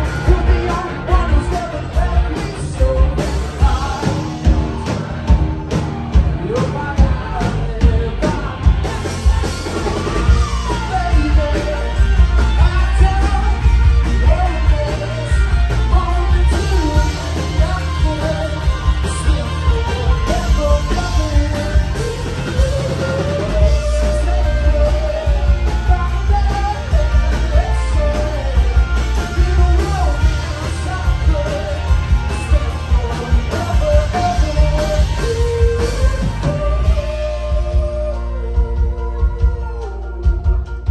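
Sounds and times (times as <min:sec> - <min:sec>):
lead singer's vocals: 0:00.0 - 0:05.4, 0:06.0 - 0:40.9
live rock band: 0:00.0 - 0:40.9.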